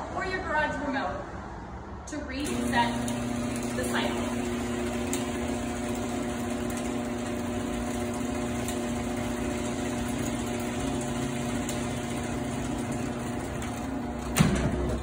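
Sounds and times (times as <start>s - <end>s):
garage door opener motor humming: 2.4s - 15.0s.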